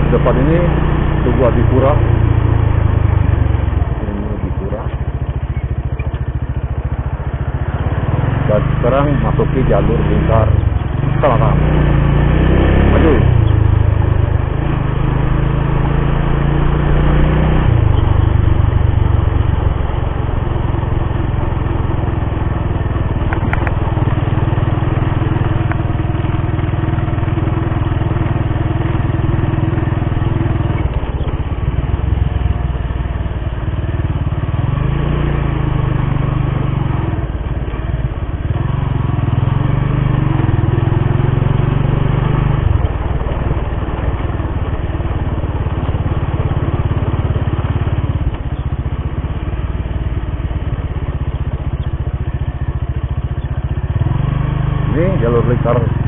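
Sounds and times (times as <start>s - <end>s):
motorcycle engine revving: 0.0s - 56.0s
road noise: 0.0s - 56.0s.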